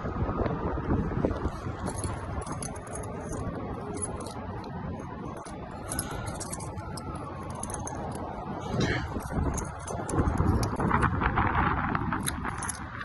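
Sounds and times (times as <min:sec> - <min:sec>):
metal keys jangling: 0:01.4 - 0:11.1, 0:12.2 - 0:13.0.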